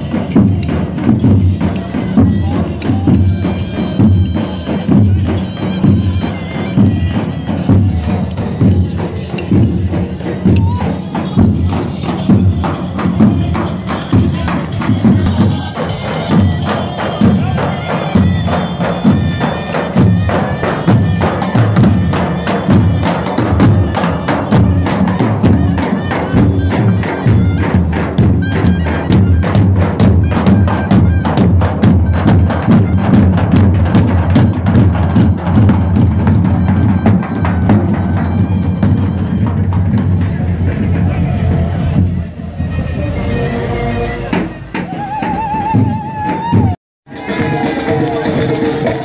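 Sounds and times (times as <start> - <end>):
marching drums beating: 0.0 - 43.3, 44.1 - 49.0.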